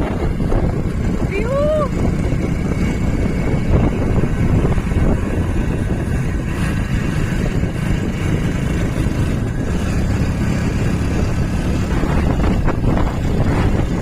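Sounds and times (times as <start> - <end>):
motorbike engine: 0.0 - 14.0
road noise: 0.0 - 14.0
wind buffeting microphone: 0.0 - 14.0.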